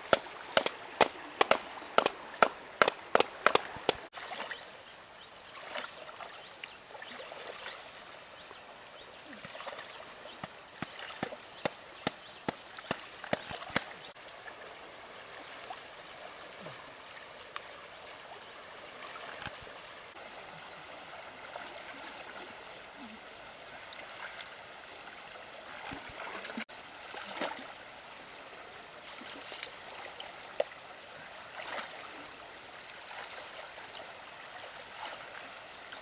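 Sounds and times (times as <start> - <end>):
river running over riffles: 0.0 - 36.0.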